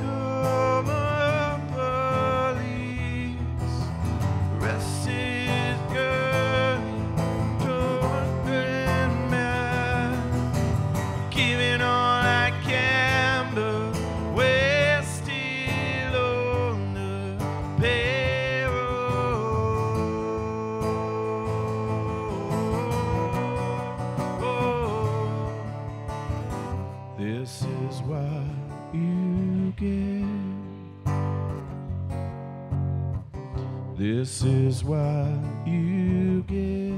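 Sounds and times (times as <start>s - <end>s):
man singing: 0.0s - 26.0s, 27.1s - 31.0s, 33.9s - 36.9s
acoustic guitar: 0.0s - 36.9s.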